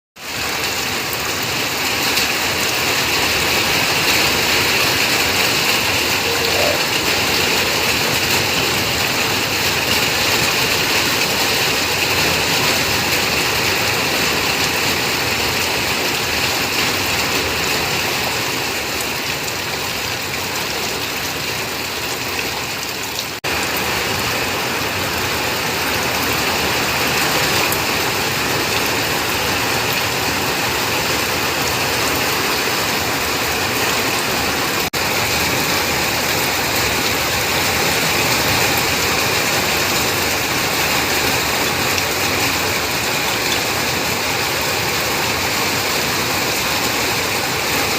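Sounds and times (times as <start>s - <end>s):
heavy rain falling: 0.2s - 47.9s.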